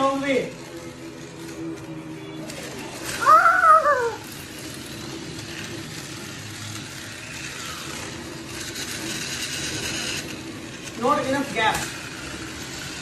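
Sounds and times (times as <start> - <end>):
toy race car whirring: 0.0 - 13.0.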